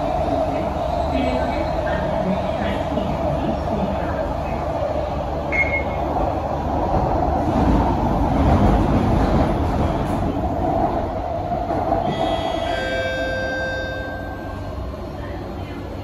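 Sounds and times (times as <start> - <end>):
metro train rumble: 0.0 - 16.0.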